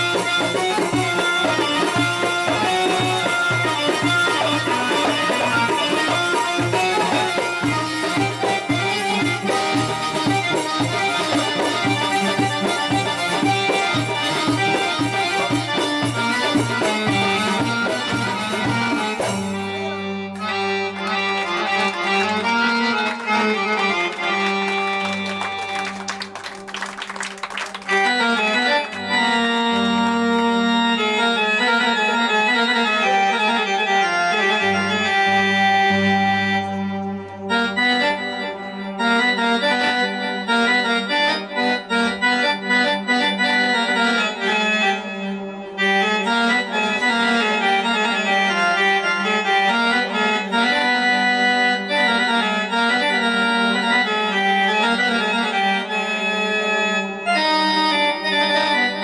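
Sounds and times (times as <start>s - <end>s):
held keyboard-like melody notes: 0.0s - 26.7s, 27.8s - 59.0s.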